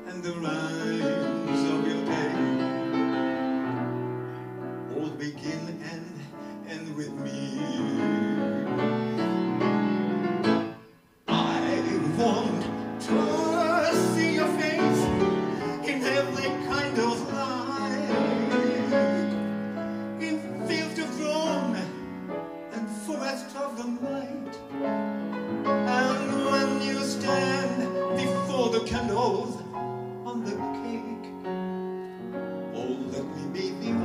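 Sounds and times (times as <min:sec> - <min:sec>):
grand piano playing jazz: 0:00.0 - 0:34.0.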